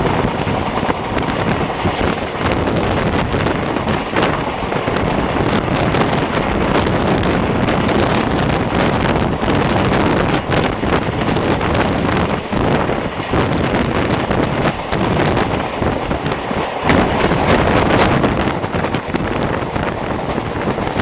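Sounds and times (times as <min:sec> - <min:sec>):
train running: 0:00.0 - 0:21.0
wheels knocking on track: 0:00.0 - 0:21.0
wind buffeting microphone: 0:00.0 - 0:21.0.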